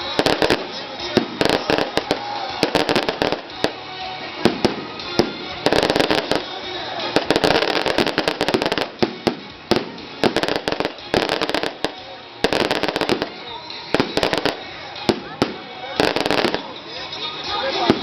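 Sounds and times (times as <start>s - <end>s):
firecrackers banging: 0.0s - 18.0s.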